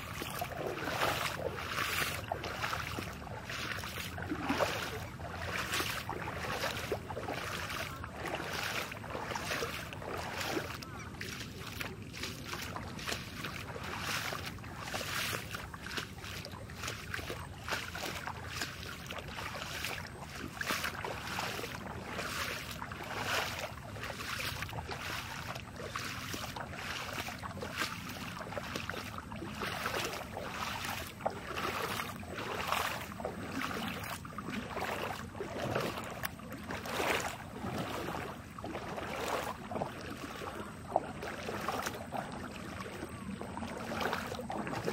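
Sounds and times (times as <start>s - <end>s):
water splashing and sloshing: 0.0s - 44.9s.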